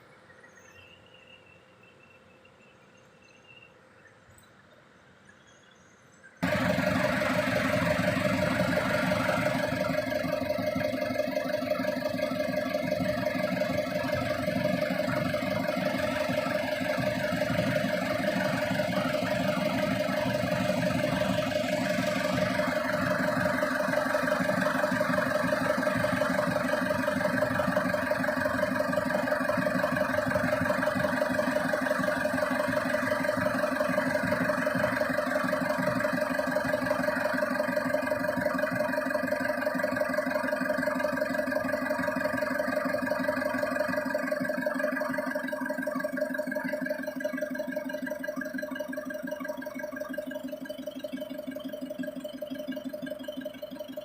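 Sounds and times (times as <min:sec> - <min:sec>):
power sprayer engine running: 0:06.4 - 0:54.0.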